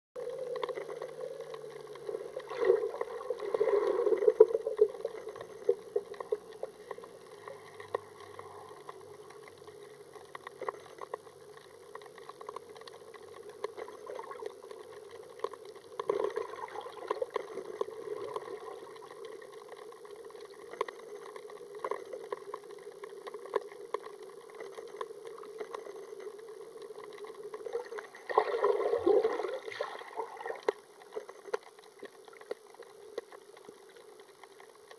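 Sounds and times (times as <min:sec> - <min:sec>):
muffled underwater noise: 0:00.2 - 0:34.9
small underwater clicks: 0:00.2 - 0:34.9.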